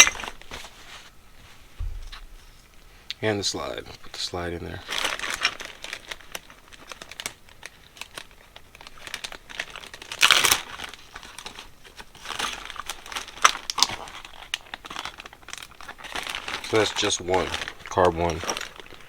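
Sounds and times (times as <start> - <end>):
rustling handling noise: 0.0 - 19.0.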